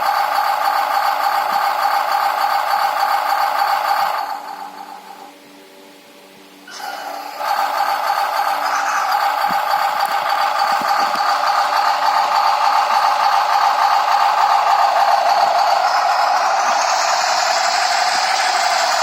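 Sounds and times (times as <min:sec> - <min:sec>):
simulated engine sound: 0:00.0 - 0:05.3, 0:06.7 - 0:19.0.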